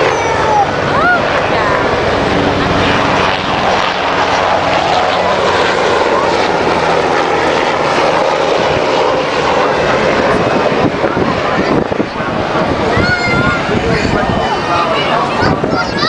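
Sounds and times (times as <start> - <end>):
helicopter flying low: 0.0 - 16.0.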